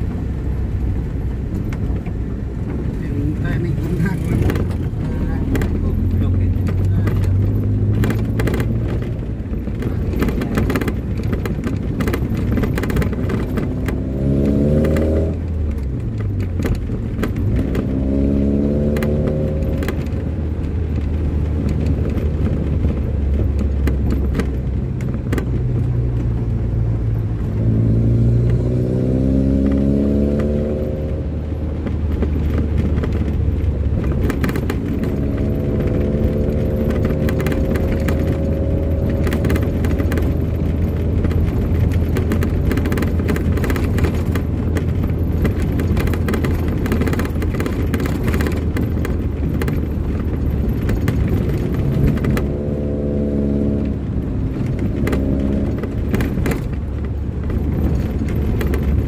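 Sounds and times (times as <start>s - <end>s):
vehicle engine accelerating: 0.0s - 59.0s
short rattles and knocks: 0.9s - 59.0s.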